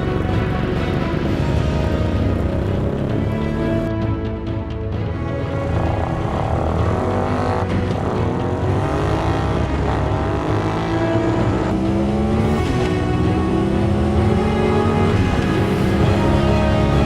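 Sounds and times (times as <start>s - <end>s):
engine accelerating through gears: 0.0s - 4.0s, 5.2s - 17.0s.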